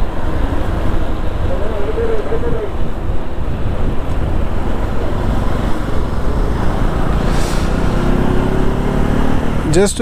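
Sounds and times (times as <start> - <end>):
motorcycle engine drone: 0.0 - 10.0
road traffic noise: 0.0 - 10.0.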